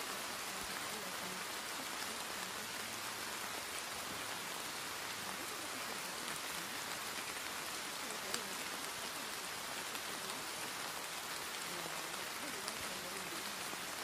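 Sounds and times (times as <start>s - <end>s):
rain hiss and patter: 0.0s - 14.0s.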